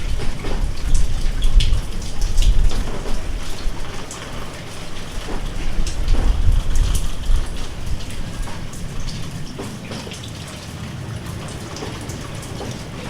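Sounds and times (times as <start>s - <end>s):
rain falling: 0.0s - 13.0s
raindrops ticking close by: 0.0s - 13.0s.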